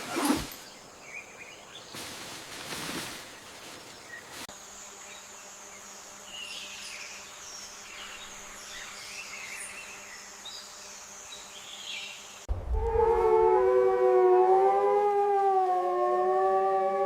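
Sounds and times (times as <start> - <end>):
insect drone: 0.0 - 15.3.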